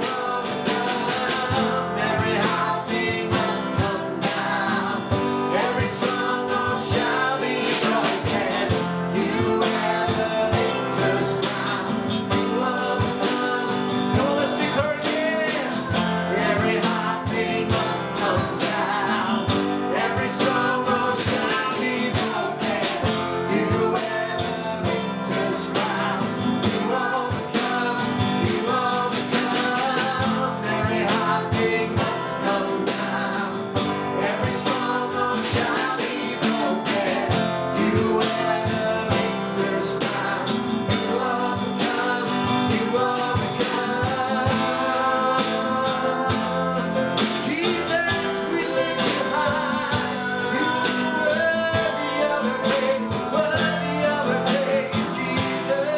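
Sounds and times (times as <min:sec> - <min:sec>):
guitar with steady beat: 0:00.0 - 0:55.9
person singing: 0:00.0 - 0:55.9.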